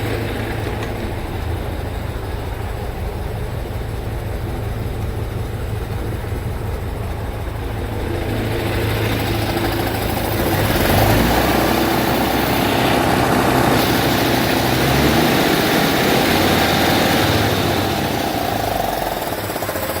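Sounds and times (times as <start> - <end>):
diesel truck engine running: 0.0 - 20.0
engine whine: 0.0 - 20.0.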